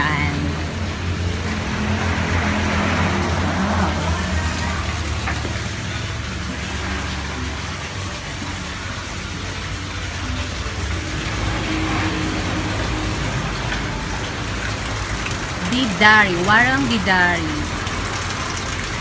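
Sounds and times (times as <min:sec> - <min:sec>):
car road noise: 0:00.0 - 0:19.0
low engine rumble: 0:00.0 - 0:19.0.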